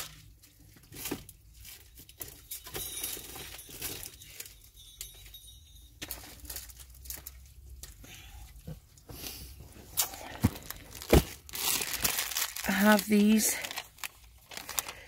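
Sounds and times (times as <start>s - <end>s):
plastic packaging crinkling: 0.0s - 8.0s, 10.0s - 15.0s.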